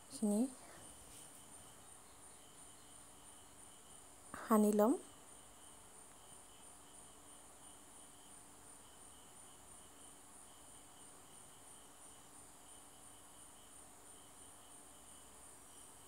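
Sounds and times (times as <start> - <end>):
insects chirping faintly: 0.0 - 16.0.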